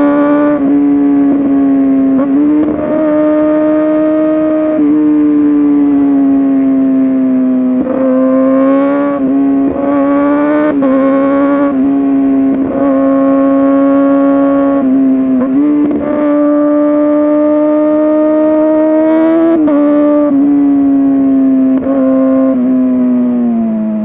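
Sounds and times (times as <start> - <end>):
motorcycle engine revving high: 0.0 - 24.0.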